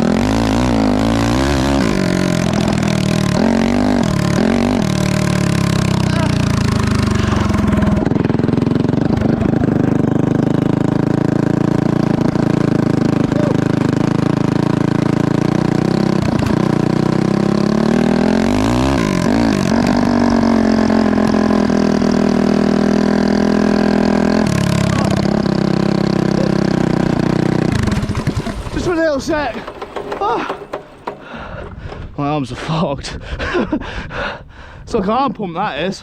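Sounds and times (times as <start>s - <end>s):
go-kart engine running: 0.0s - 32.1s.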